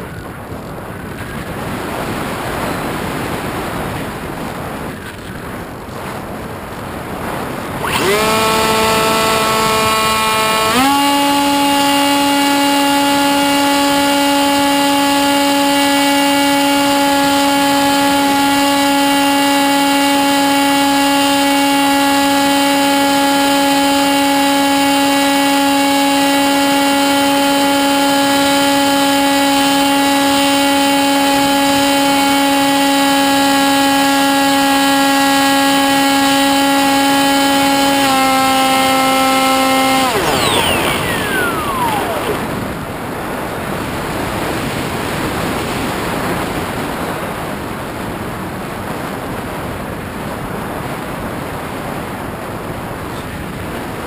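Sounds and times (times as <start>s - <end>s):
model plane propeller whining: 0.0s - 48.6s.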